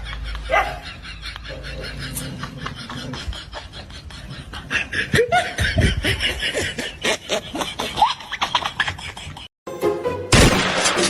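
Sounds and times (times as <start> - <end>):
person laughing: 0.0 - 9.5.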